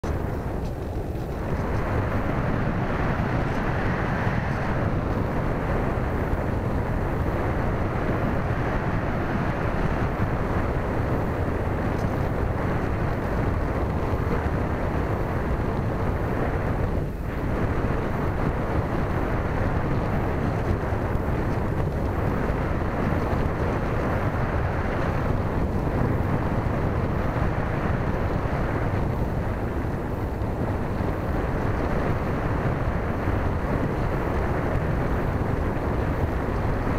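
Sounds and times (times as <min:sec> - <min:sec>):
airflow rushing over microphone: 0:00.0 - 0:36.9.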